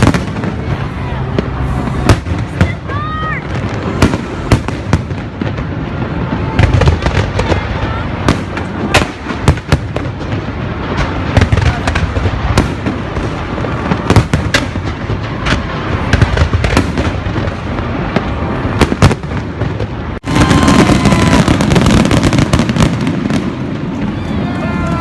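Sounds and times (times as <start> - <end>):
fireworks bangs and pops: 0.0 - 25.0
fireworks crackle and rumble: 0.0 - 25.0.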